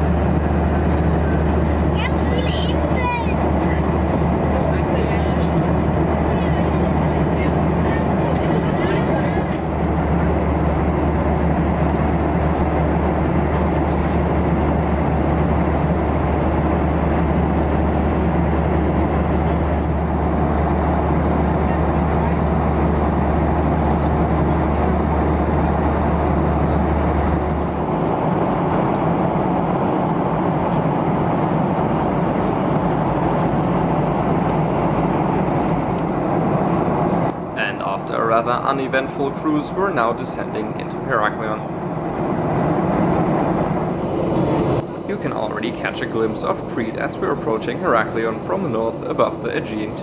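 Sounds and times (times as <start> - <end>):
deep low drone: 0.0 - 2.2, 3.3 - 50.0
aircraft cabin air rush: 0.0 - 50.0.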